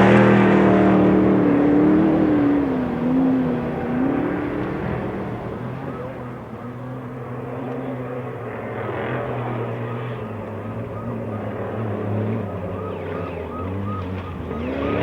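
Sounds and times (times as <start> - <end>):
off-road vehicle engines: 0.0 - 15.0.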